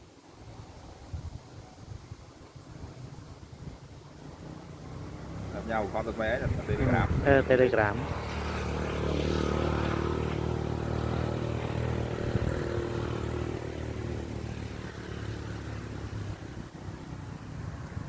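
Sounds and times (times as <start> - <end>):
vehicle engine humming: 3.5 - 18.0.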